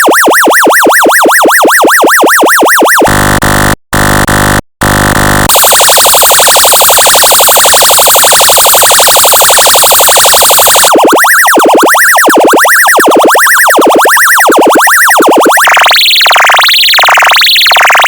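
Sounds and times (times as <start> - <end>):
siren sweeping up and down: 0.0 - 18.0
warbling siren: 0.0 - 18.0.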